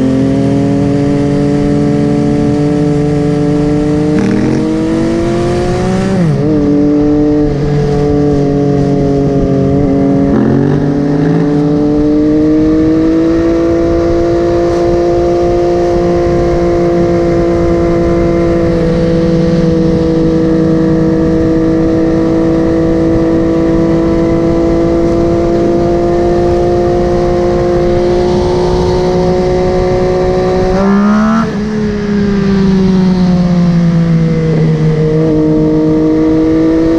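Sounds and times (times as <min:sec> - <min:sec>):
motorcycle engine: 0:00.0 - 0:36.9.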